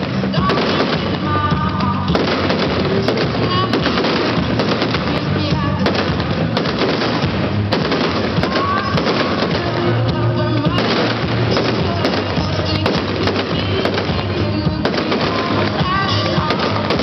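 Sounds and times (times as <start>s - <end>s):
fireworks crackling and banging: 0.0s - 17.0s
music playing: 0.0s - 17.0s.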